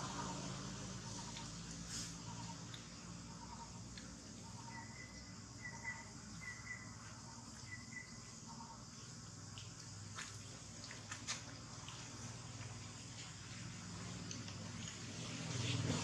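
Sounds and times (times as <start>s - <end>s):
steady outdoor hum: 0.0s - 16.0s.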